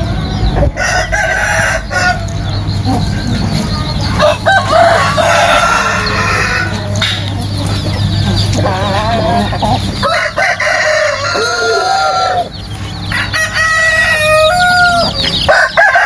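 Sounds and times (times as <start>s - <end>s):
hens clucking: 0.0s - 16.0s
roosters crowing: 0.0s - 16.0s.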